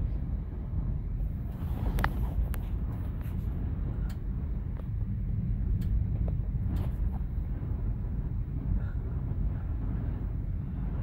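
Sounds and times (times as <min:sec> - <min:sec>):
strong wind gusting: 0:00.0 - 0:11.0.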